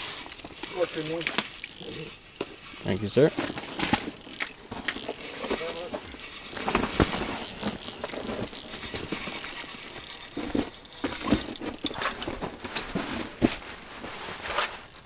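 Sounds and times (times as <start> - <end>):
fishing reel clicking and ratcheting: 0.0 - 12.1.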